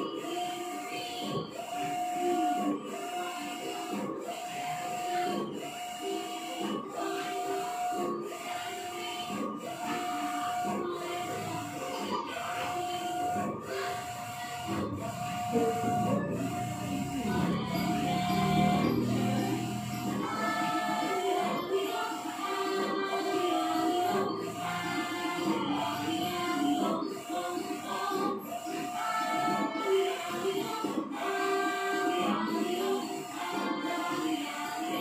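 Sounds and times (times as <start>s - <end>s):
printer carriage whining: 0.0s - 35.0s.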